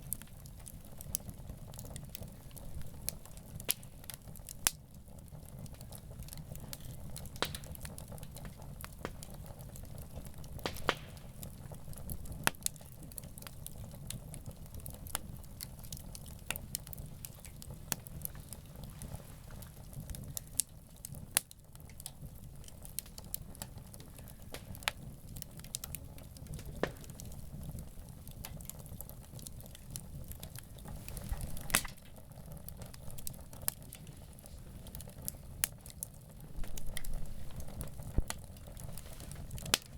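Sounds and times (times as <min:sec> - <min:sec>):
campfire crackling and popping: 0:00.0 - 0:39.9
low steady fire rumble: 0:00.0 - 0:39.9.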